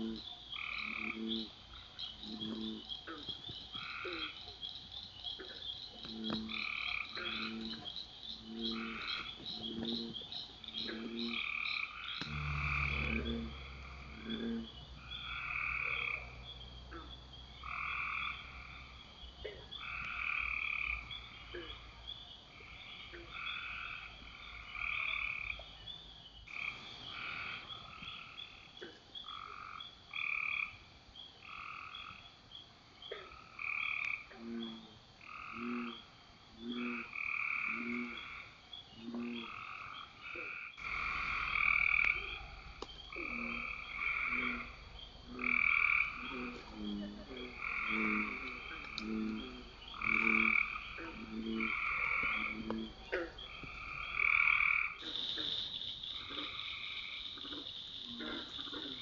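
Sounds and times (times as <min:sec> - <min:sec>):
lower-pitched frog calling: 0:00.0 - 0:30.8, 0:33.1 - 0:59.0
frogs calling: 0:00.0 - 0:59.0.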